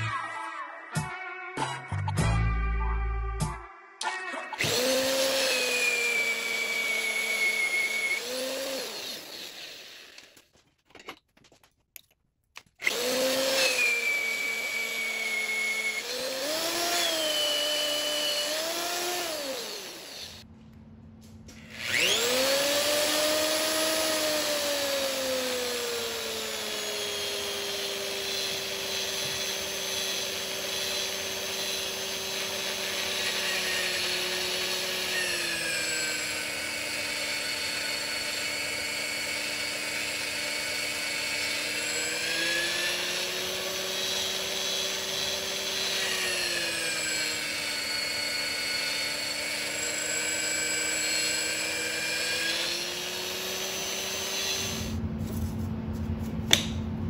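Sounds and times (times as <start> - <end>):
drill press motor whining: 4.6 - 10.4, 12.8 - 20.4, 21.5 - 55.0.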